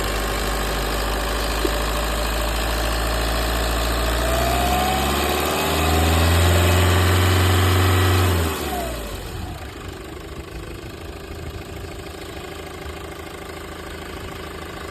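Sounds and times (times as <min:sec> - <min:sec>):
diesel engine revving and idling: 0:00.0 - 0:14.9.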